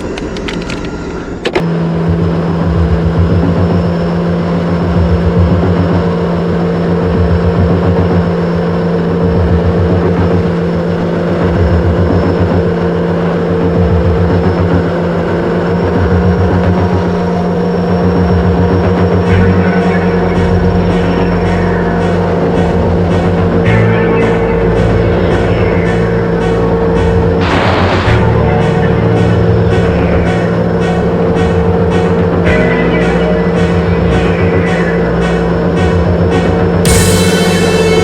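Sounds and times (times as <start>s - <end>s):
jet ski engine running hard: 1.5s - 37.4s.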